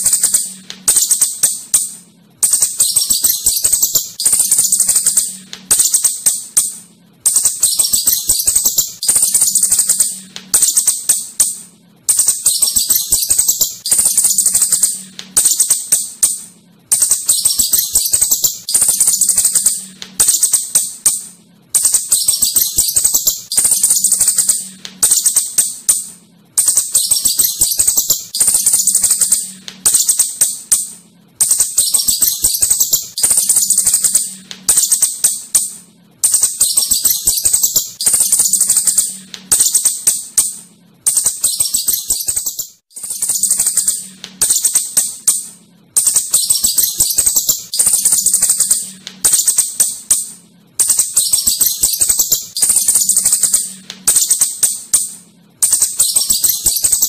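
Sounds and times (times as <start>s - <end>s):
shrew chittering: 0.0s - 57.0s.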